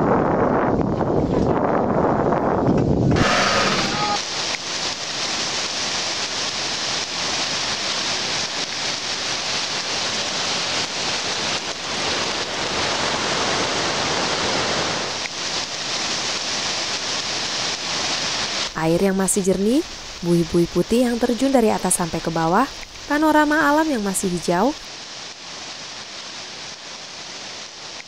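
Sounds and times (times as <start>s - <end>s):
waterfall rushing over rocks: 3.2s - 28.0s.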